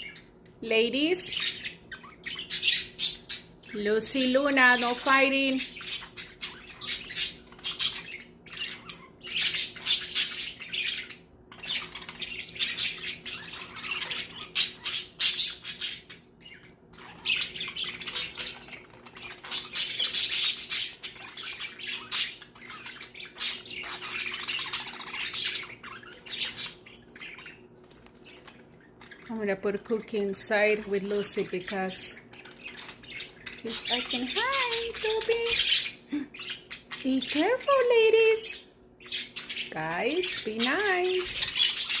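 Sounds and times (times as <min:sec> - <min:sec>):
budgerigars chattering and squawking: 0:01.0 - 0:42.0.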